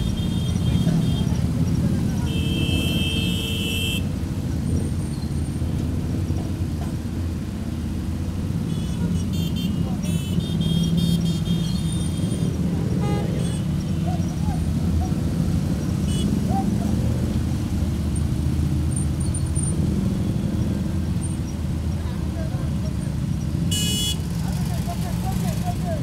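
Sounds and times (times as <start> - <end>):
motorcycle engines rumbling: 0.0 - 26.0.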